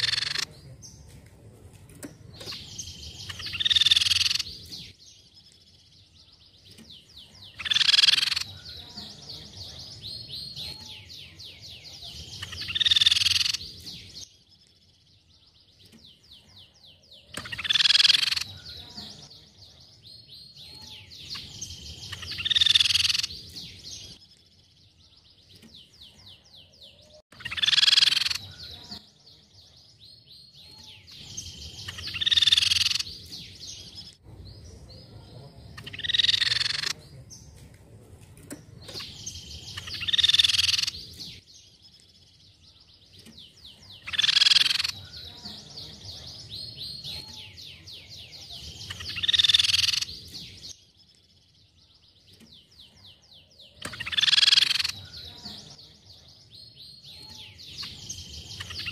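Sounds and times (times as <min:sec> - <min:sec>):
bird singing loud calls and trills: 0:00.0 - 0:58.9.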